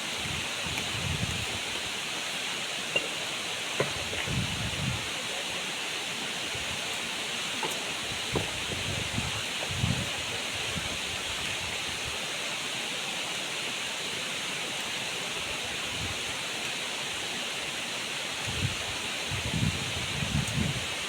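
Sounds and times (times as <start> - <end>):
waterfall rushing water: 0.0 - 21.0.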